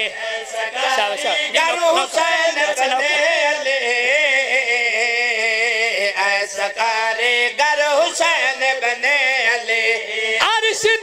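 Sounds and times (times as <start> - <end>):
men singing in chorus: 0.0 - 11.0.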